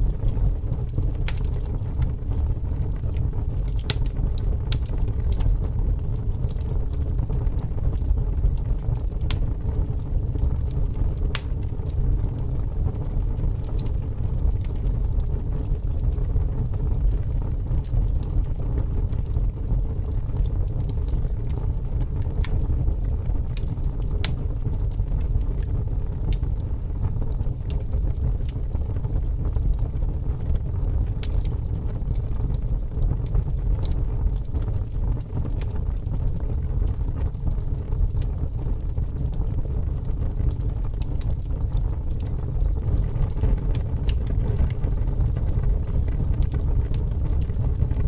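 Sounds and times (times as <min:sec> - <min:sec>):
fire burning with crackles: 0:00.0 - 0:48.0.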